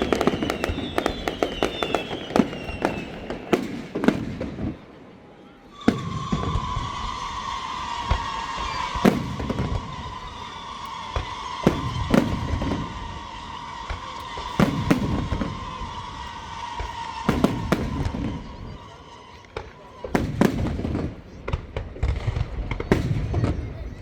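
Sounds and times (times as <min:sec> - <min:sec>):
fireworks booming: 0:00.0 - 0:24.0
fireworks crackling: 0:00.0 - 0:24.0.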